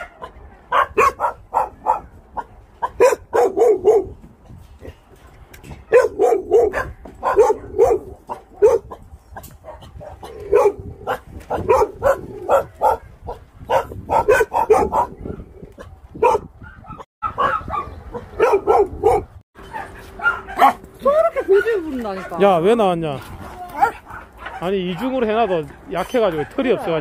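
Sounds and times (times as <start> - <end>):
dogs barking: 0.0 - 4.2, 5.7 - 27.0.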